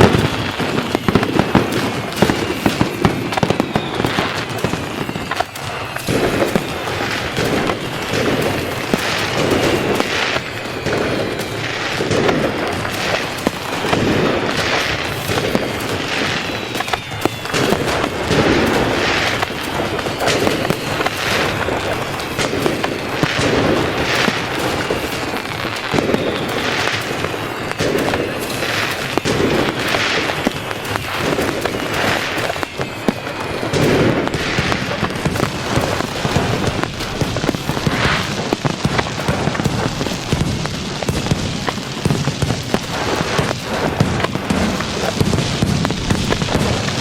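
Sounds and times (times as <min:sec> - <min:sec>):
faint falling whistles: 0:00.0 - 0:38.5
fireworks bangs: 0:00.0 - 0:47.0
fireworks crackling: 0:00.0 - 0:47.0.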